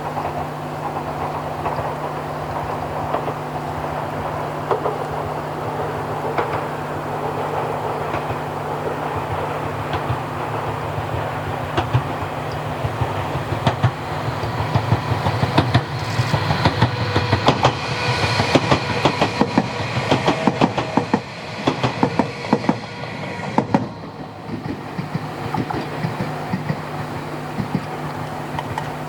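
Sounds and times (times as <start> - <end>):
train rumbling: 0.0 - 29.0
wheels clacking over rail joints: 0.0 - 29.0.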